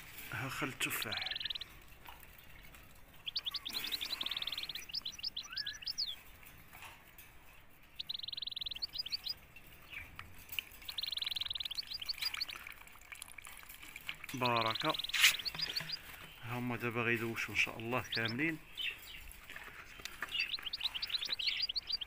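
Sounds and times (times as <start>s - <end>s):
canary singing: 0.0s - 6.9s, 7.7s - 13.0s, 13.7s - 22.0s.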